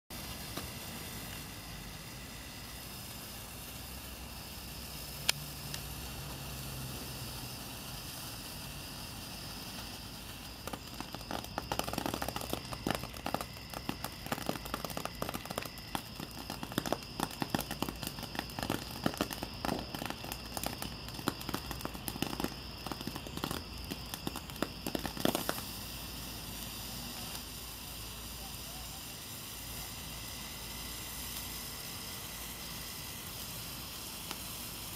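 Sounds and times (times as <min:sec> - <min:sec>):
fountain firework hissing: 0:00.1 - 0:34.9
sparks crackling: 0:00.1 - 0:34.9.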